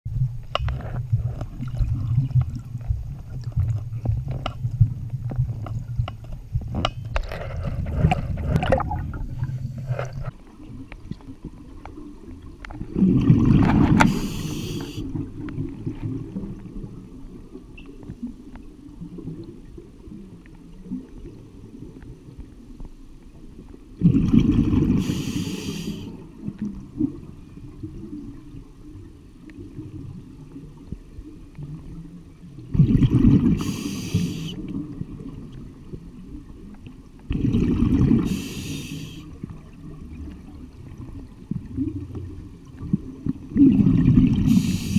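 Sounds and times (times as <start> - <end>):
exhaled bubbles rushing underwater: 0.1 - 44.9.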